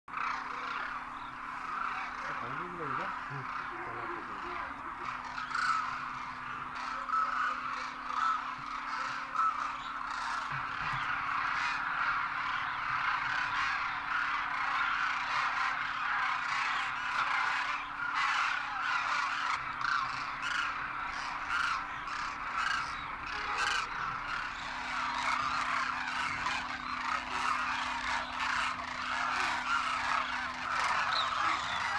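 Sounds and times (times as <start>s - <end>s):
flock of cranes calling: 0.1s - 31.9s.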